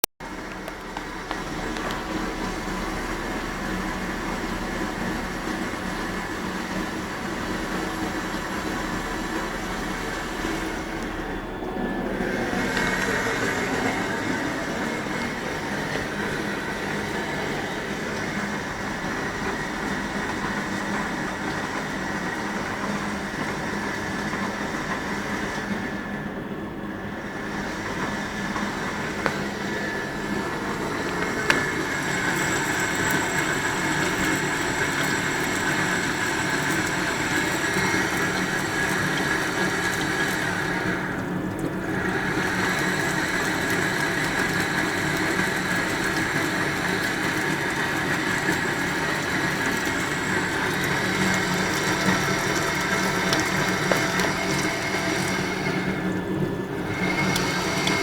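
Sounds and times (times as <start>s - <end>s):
low machine noise: 0.2s - 58.0s.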